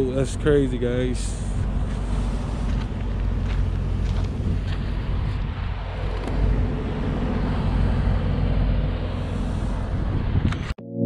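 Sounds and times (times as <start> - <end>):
low rumble: 0.0 - 10.8.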